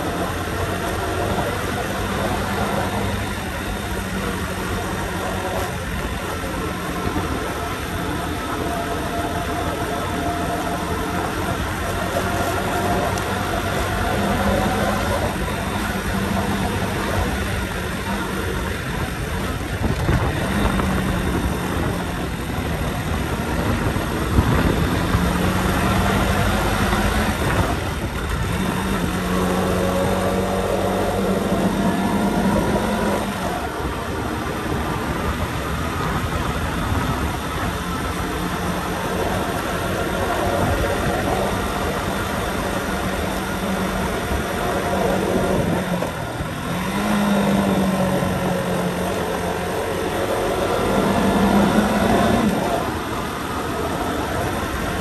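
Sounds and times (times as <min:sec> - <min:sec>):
motorcycle engine running: 0:00.0 - 0:55.0
rushing wind noise: 0:00.0 - 0:55.0.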